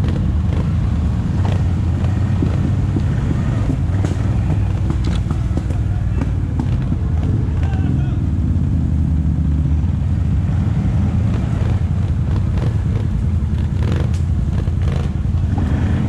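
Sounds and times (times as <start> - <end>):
atv engine droning: 0.0 - 16.0.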